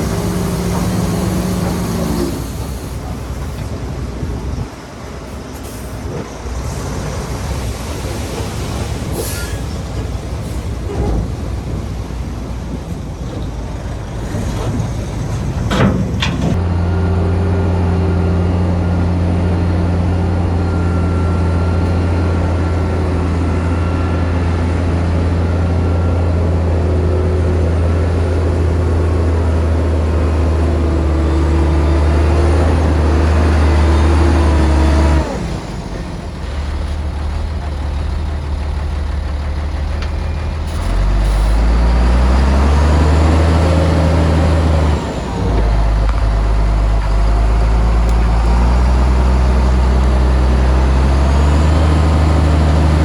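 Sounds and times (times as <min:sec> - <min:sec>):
diesel engine revving under load: 0:00.0 - 0:04.7, 0:05.6 - 0:53.0.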